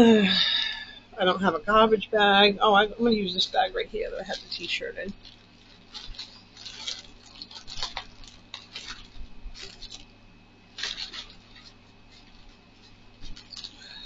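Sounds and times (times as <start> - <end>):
plastic packaging crinkling: 2.7 - 14.0.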